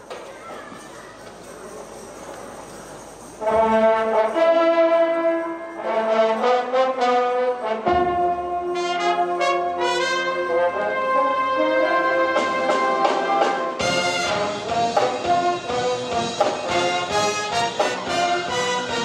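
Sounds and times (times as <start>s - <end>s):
wind band brass chords: 3.4s - 19.0s.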